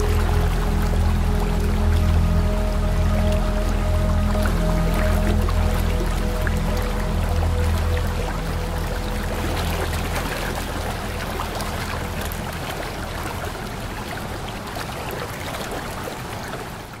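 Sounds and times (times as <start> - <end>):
low droning tones: 0.0 - 16.3
waterfall rushing: 0.0 - 17.0.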